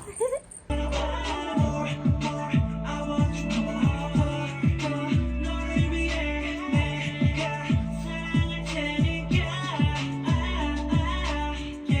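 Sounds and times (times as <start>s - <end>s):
background music with beat: 0.7s - 12.0s.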